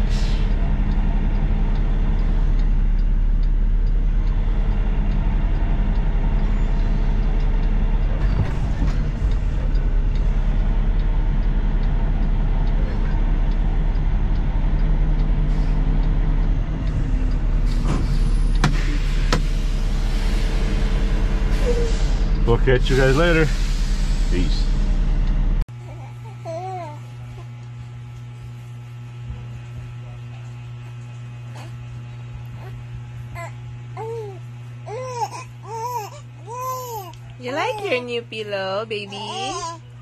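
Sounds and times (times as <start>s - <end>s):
diesel truck engine droning: 0.0s - 40.0s.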